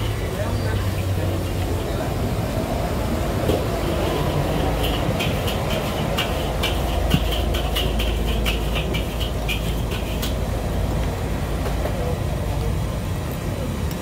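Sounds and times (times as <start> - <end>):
vehicle rumbling past: 0.0 - 13.1.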